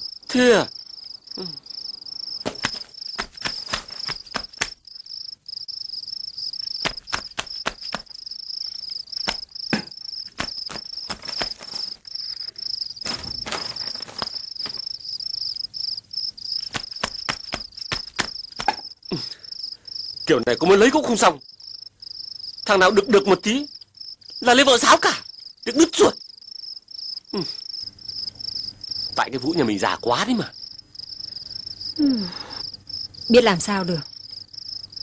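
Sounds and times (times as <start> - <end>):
insect trilling: 0.0 - 35.0.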